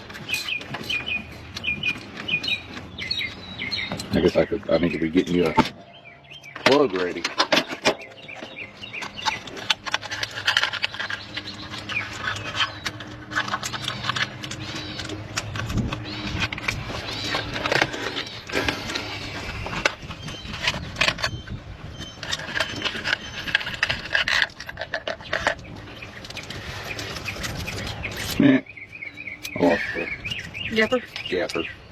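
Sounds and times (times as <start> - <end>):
metal tools clinking and scraping: 0.0 - 28.6
birds chirping: 0.0 - 31.9.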